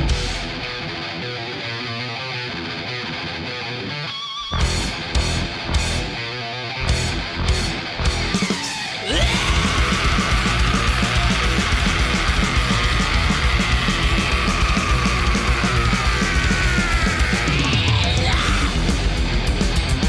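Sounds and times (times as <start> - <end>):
heavy metal music: 0.0 - 20.0
sliding guitar lead: 0.0 - 20.0.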